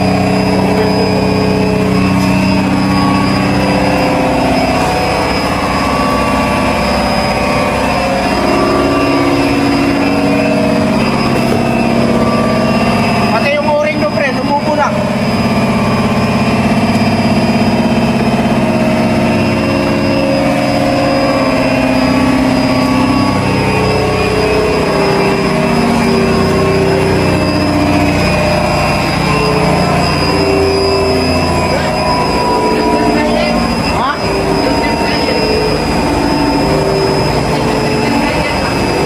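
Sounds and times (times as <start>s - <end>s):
refrigeration compressor droning: 0.0s - 39.0s.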